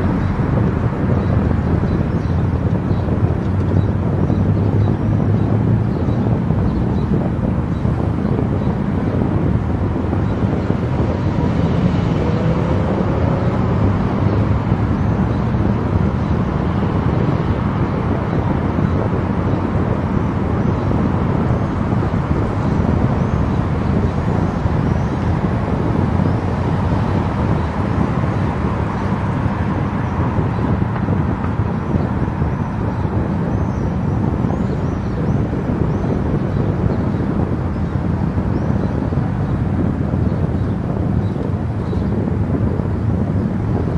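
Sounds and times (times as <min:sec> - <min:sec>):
car driving at highway speed: 0:00.0 - 0:43.9.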